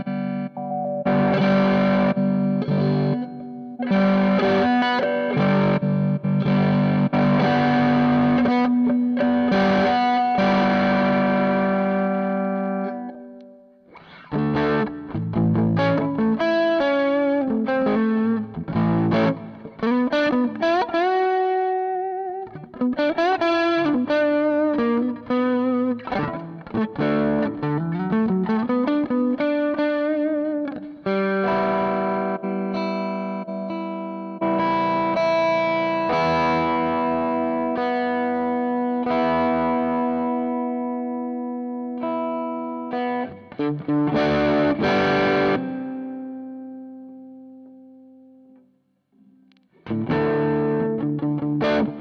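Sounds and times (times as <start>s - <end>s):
overdriven electric guitar: 0.0s - 52.0s.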